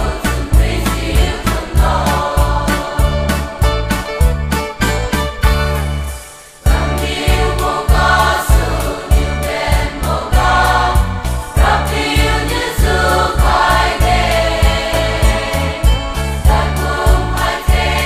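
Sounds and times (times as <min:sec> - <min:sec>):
choir singing a hymn: 0:00.0 - 0:04.2, 0:06.6 - 0:18.0
bass line: 0:00.0 - 0:18.0
steady beat: 0:00.0 - 0:18.0.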